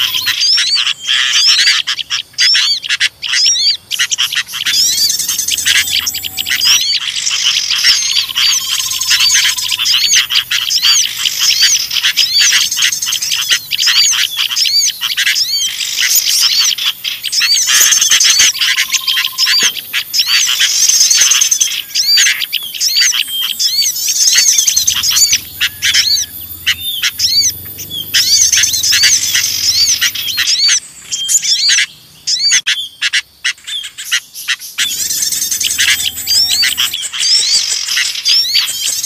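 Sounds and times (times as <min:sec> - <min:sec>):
flock of songbirds chattering: 0:00.0 - 0:39.0.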